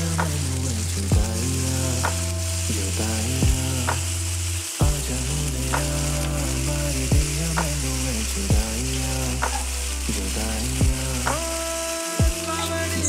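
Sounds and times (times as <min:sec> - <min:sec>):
background music with bass: 0:00.0 - 0:13.0
oil sizzling in a pan: 0:00.0 - 0:13.0.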